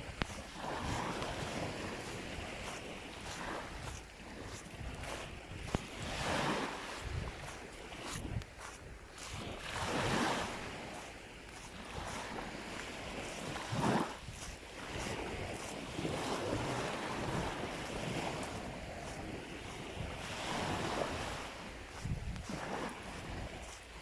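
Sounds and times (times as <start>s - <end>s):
waves washing on beach: 0.0s - 24.0s
wind on microphone: 0.0s - 24.0s.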